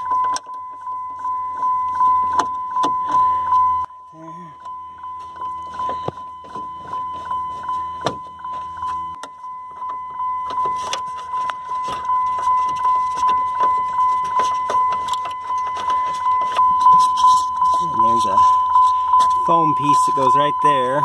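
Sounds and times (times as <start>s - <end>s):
car warning chime dinging: 0.0s - 21.0s.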